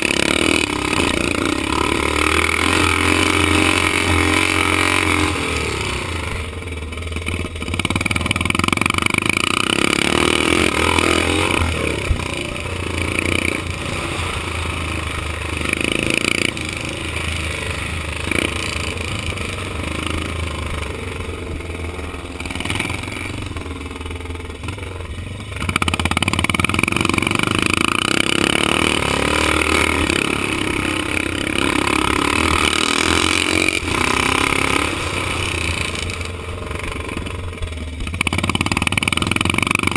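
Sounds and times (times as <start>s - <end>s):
motorcycle engine revving: 0.0s - 39.9s
second motorcycle: 0.0s - 39.9s.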